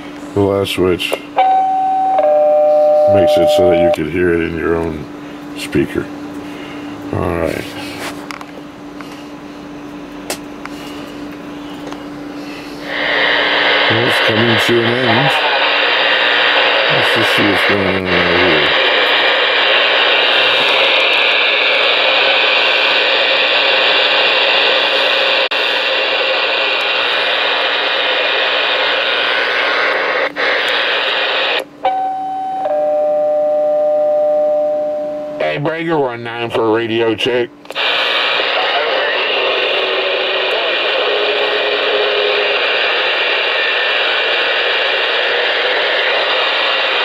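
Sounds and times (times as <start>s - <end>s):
radio static hiss: 3.0s - 8.4s, 10.7s - 31.7s, 35.4s - 47.0s.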